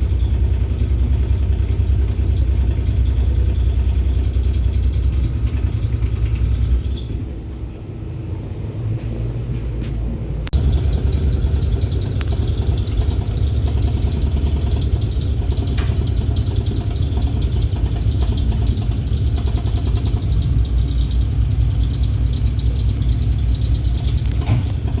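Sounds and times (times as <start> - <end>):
tram rumbling and rattling: 0.0 - 25.0.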